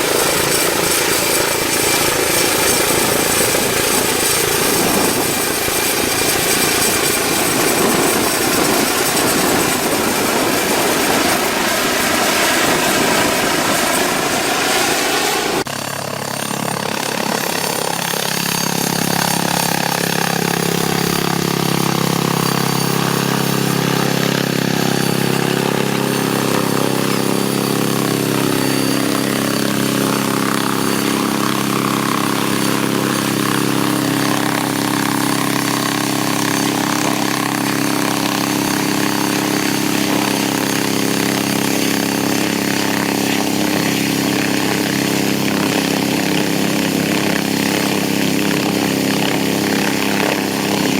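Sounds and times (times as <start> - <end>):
helicopter rotor and turbine drone: 0.0 - 50.9.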